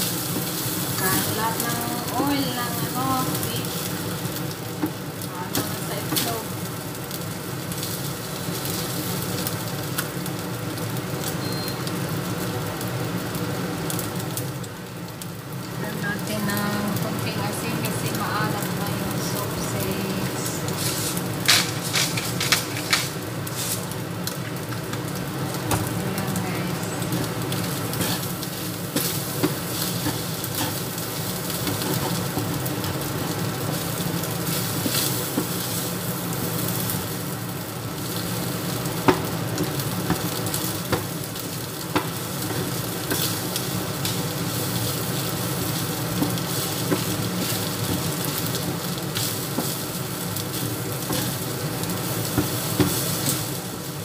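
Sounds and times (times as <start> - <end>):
rice sizzling in a pan: 0.0 - 54.0.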